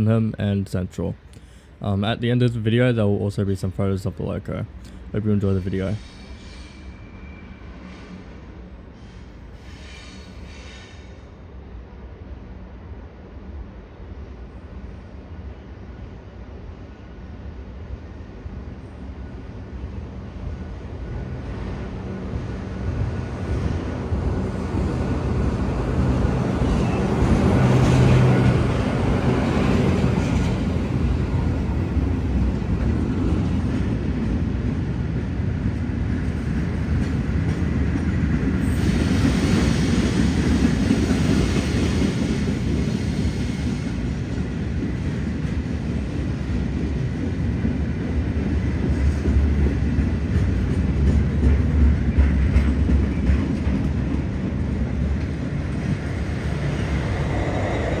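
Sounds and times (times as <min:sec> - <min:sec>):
train wheels rumbling on rail: 0:04.5 - 0:12.8, 0:13.4 - 0:58.0.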